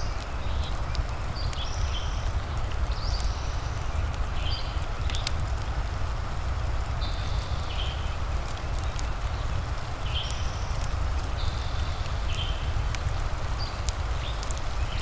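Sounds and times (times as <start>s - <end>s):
fire crackling: 0.0s - 15.0s
rain hiss: 0.0s - 15.0s.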